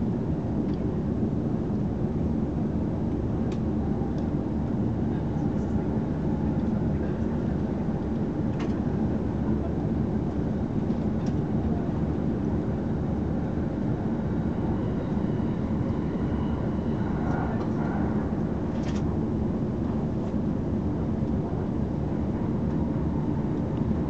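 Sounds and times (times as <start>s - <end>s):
train rumble: 3.1s - 24.0s.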